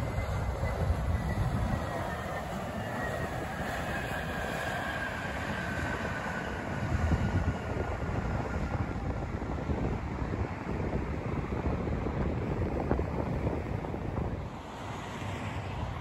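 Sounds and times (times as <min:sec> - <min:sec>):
jet engines at takeoff: 0:00.0 - 0:16.0
wind buffeting microphone: 0:00.0 - 0:16.0.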